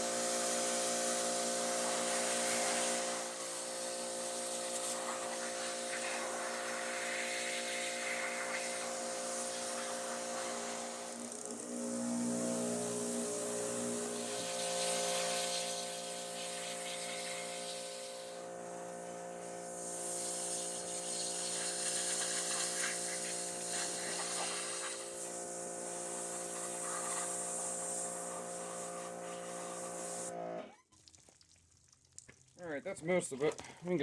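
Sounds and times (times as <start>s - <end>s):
water jet hissing: 0.0s - 18.5s, 19.4s - 30.3s
pressure washer motor hum: 0.0s - 30.7s.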